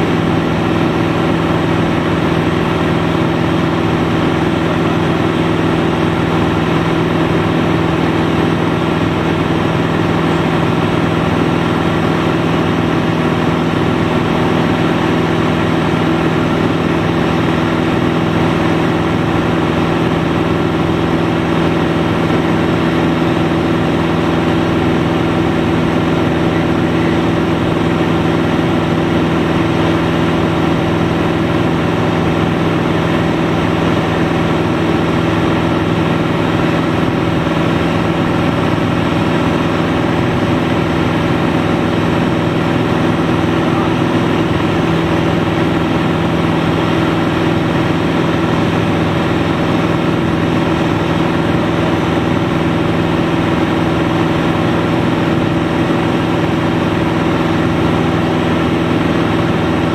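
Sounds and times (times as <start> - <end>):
propeller aircraft engine drone: 0.0 - 59.9.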